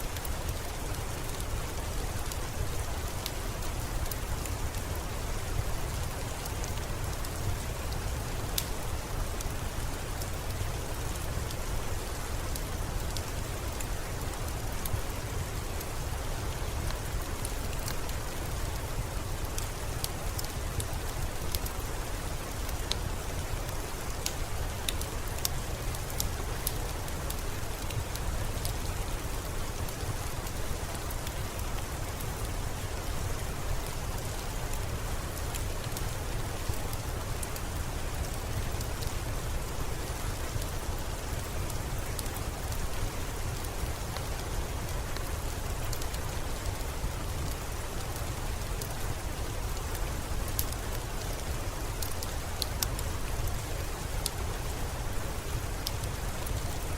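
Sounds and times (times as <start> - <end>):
steady rain falling: 0.0 - 56.9
wood fire crackling: 0.0 - 56.9.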